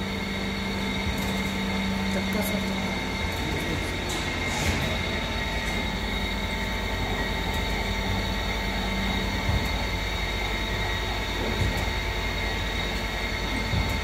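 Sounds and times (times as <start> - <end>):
lathe running: 0.0 - 14.0.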